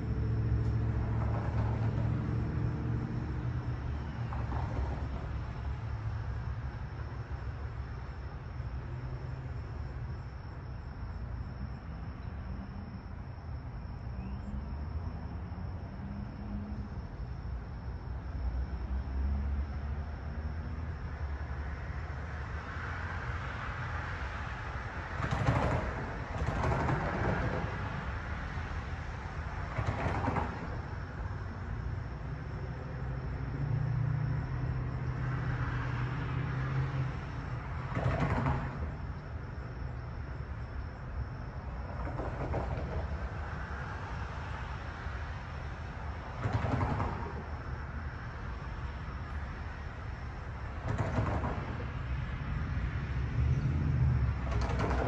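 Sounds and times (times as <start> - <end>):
railway station background noise: 0.0 - 19.2, 19.8 - 35.8, 36.6 - 55.0.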